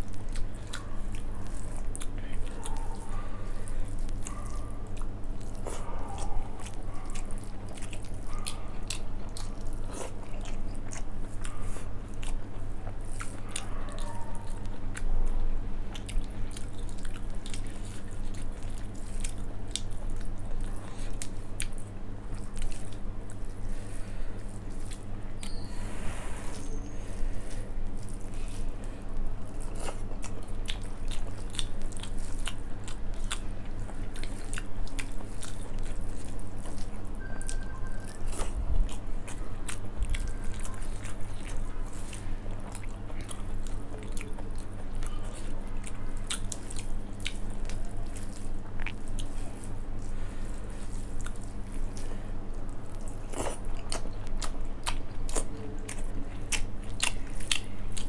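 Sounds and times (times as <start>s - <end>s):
chewing and wet mouth clicks: 0.0s - 3.2s, 3.8s - 23.6s, 24.4s - 25.7s, 29.4s - 50.1s, 50.8s - 58.0s.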